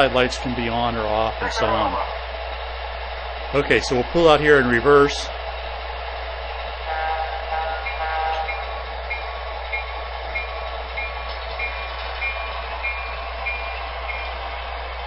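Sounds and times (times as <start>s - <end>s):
model diesel locomotive engines: 0.0s - 15.0s.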